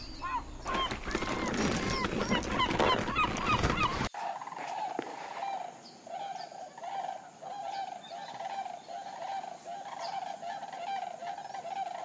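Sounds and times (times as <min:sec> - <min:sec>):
chorus of rising bird calls: 0:00.0 - 0:12.0
lower bird calls: 0:00.0 - 0:12.0.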